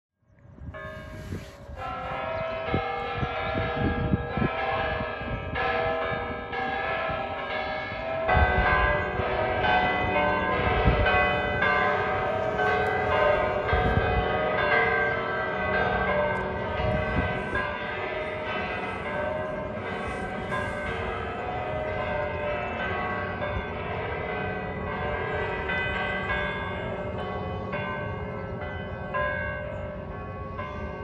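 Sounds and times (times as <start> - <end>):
church bells ringing: 0.6 - 31.0.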